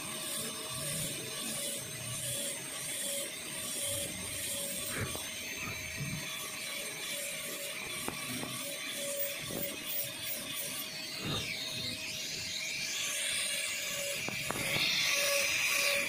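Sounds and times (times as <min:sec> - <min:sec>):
dental drill grinding whine: 0:00.0 - 0:16.0.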